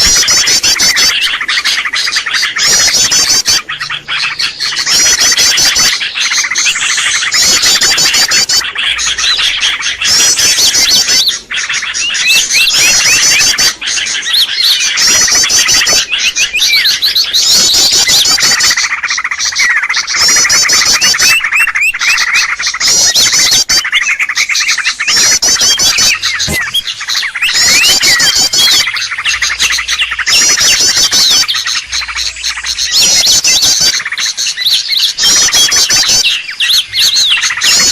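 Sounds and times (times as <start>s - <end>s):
fast high bird trill: 0.0s - 37.9s
songbirds chirping: 0.0s - 37.9s.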